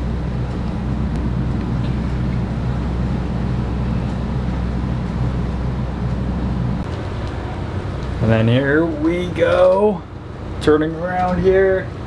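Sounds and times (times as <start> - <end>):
diesel boat engine droning: 0.0 - 12.0.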